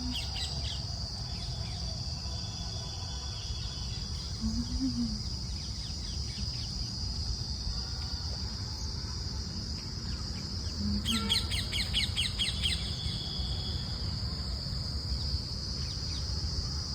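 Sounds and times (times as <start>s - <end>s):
crickets trilling: 0.0s - 16.9s.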